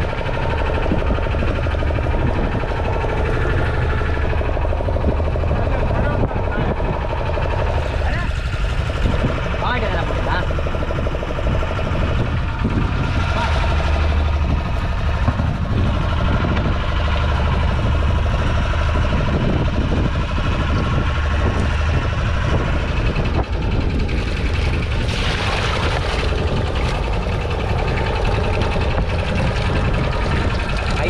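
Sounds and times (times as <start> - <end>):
boat engine running: 0.0 - 31.0
water sloshing and splashing: 0.0 - 31.0.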